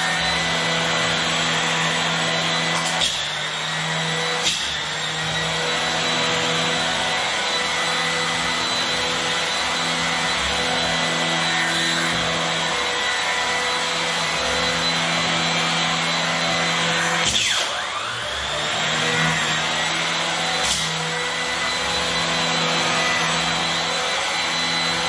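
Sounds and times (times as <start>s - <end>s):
vacuum cleaner running on carpet: 0.0s - 25.0s.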